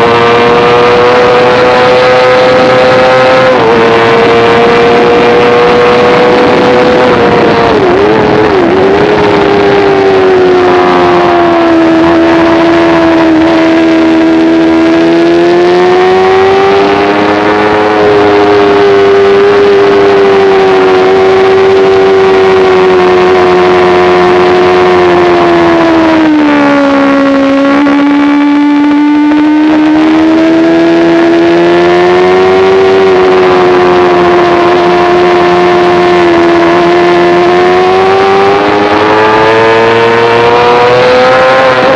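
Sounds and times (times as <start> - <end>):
motorcycle engine at high revs: 0.0 - 41.9.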